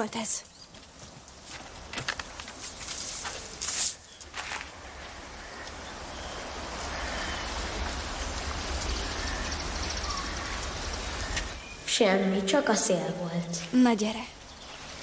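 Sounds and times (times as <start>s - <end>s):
wind blowing: 0.8s - 15.0s.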